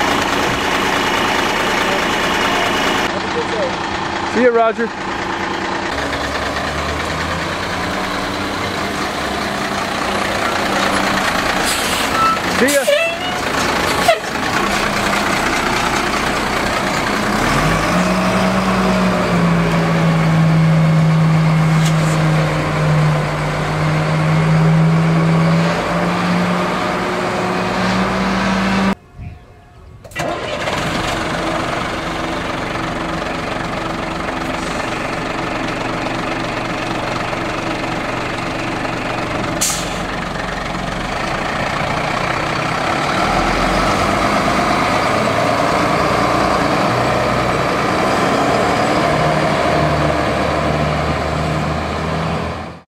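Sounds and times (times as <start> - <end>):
garbage truck diesel engines running: 0.0 - 52.8.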